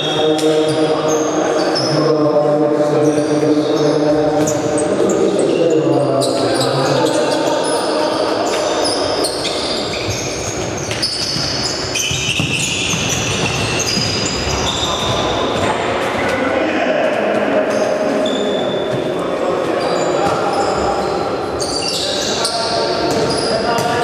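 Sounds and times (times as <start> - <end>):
shoes squeaking on hall floor: 0.0 - 24.0.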